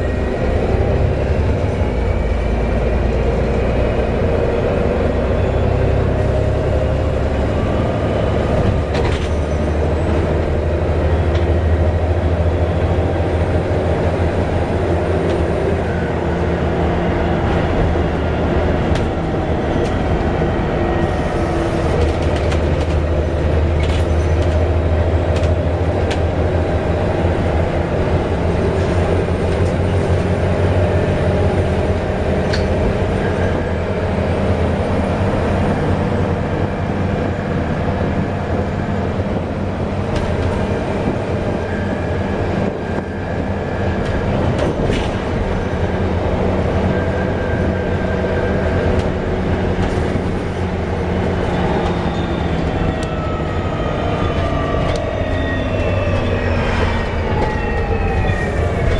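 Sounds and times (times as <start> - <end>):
bus diesel engine drone: 0.0 - 58.9.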